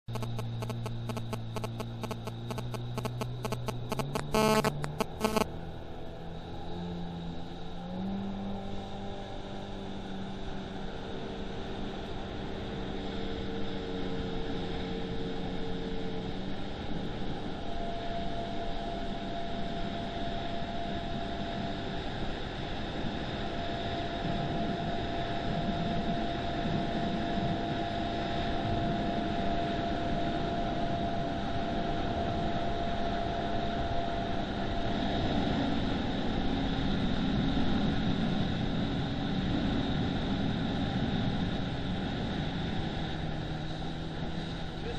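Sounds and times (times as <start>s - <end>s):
wind: 0.0s - 44.9s
motorboat engines droning: 0.1s - 44.9s.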